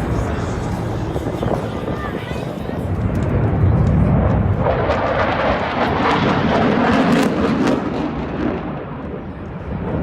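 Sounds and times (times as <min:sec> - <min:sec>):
airplane engine rushing: 0:00.0 - 0:10.0.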